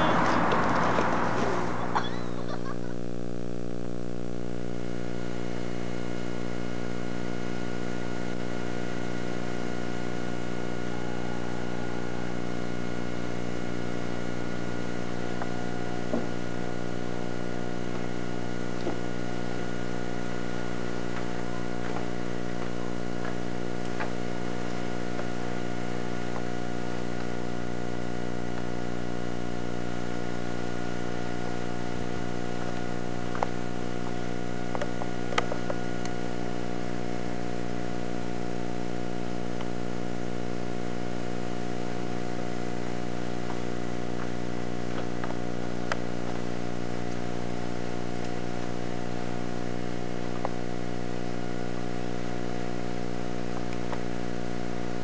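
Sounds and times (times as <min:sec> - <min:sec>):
steady droning hum: 0:00.0 - 0:55.0.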